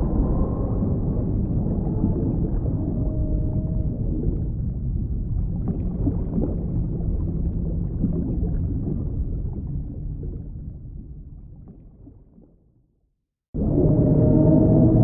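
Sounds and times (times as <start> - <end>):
low underwater rumble: 0.0 - 12.9, 13.6 - 15.0
faint crackling and bubbling: 0.0 - 13.0.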